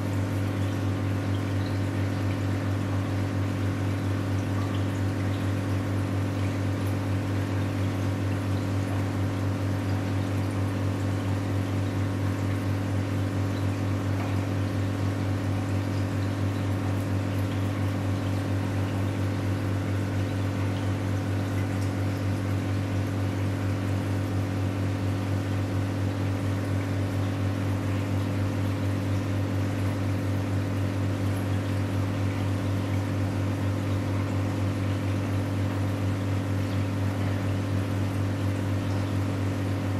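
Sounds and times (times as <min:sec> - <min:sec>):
aquarium pump humming: 0:00.0 - 0:39.9.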